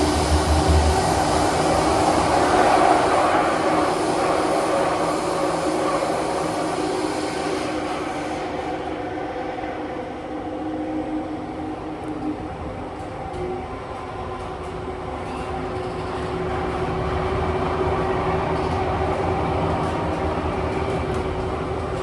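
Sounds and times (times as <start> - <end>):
steady humming tones: 0.0 - 22.0
train wheels on rail roar: 0.0 - 22.0.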